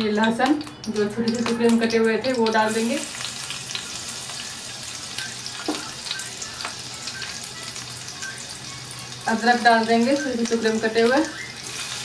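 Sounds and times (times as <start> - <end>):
garlic sizzling in hot oil: 0.0 - 12.0
oil crackling and popping: 0.0 - 12.0.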